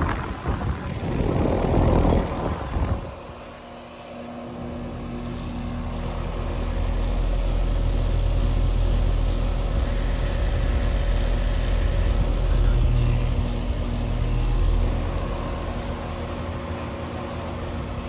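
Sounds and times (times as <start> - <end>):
compressor hum: 0.0 - 18.0
condenser fan whoosh: 0.0 - 18.0.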